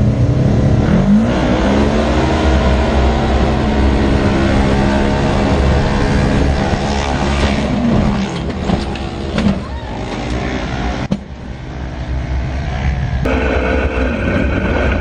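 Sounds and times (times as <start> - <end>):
engine running hard: 0.0 - 15.0.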